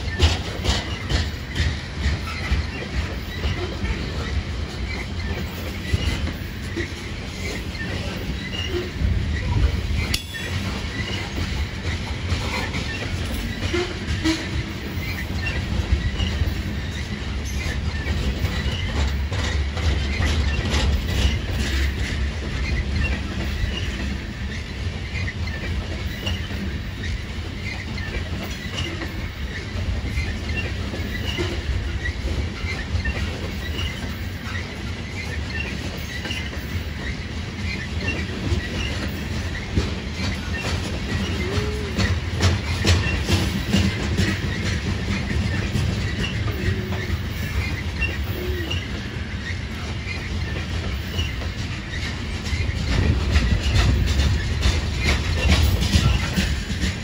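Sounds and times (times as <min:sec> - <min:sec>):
low rumble of train: 0:00.0 - 0:57.0
wheels clacking over rail joints: 0:00.0 - 0:57.0.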